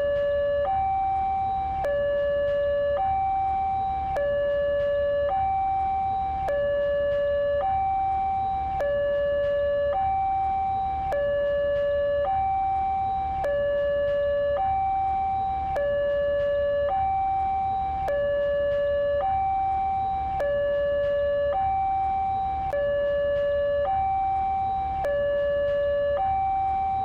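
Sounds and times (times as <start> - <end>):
two-tone siren: 0.0 - 27.0.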